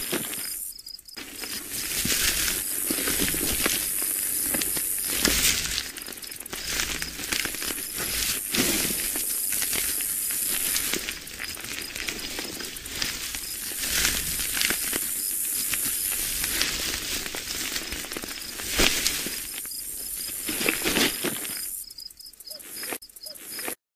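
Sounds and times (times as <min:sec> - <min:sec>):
dung beetle crackling and scratching: 0:00.0 - 0:23.8.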